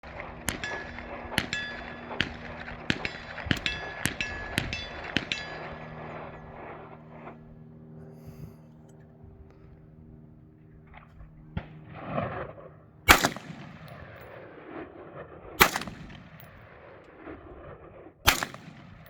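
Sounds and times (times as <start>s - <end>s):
rifle shots with ringing tail: 0.0s - 7.5s, 10.9s - 19.0s.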